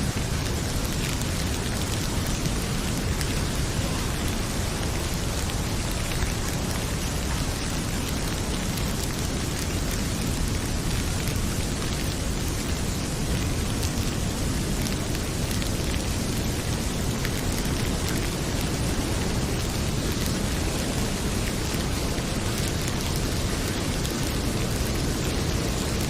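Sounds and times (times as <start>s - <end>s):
heavy rain pouring: 0.0s - 26.0s
faint fireplace crackles: 0.1s - 26.0s.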